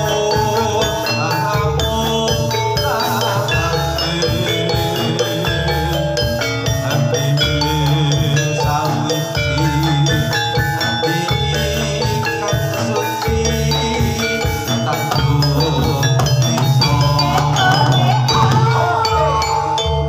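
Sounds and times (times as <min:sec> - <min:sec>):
gamelan metallophones ringing: 0:00.0 - 0:20.0.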